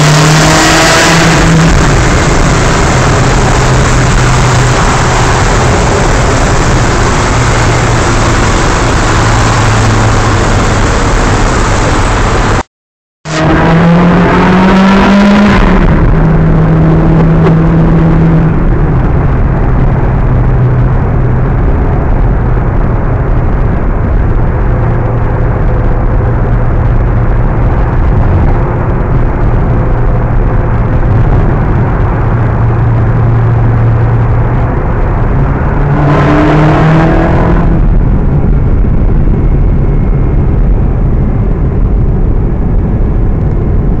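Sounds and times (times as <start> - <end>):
car engine accelerating: 0.0 - 12.6, 13.3 - 44.0.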